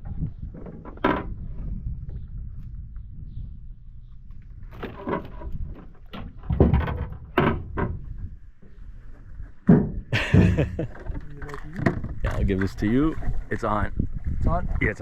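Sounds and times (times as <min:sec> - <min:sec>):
knocks and thumps on a boat: 0:00.0 - 0:02.2, 0:04.6 - 0:15.0.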